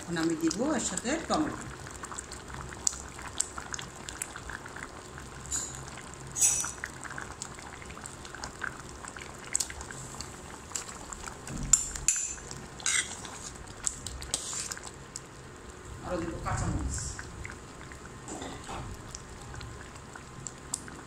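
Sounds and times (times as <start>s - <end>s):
dal bubbling in a pot: 0.0s - 21.0s.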